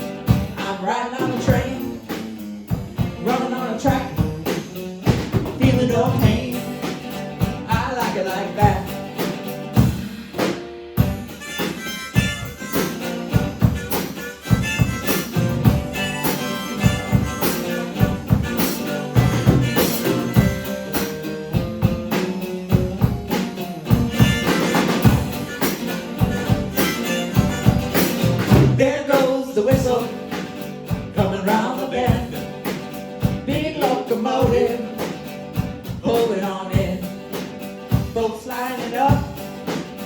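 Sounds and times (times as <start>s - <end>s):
drum beat: 0.0s - 0.6s, 1.3s - 28.9s, 32.1s - 40.0s.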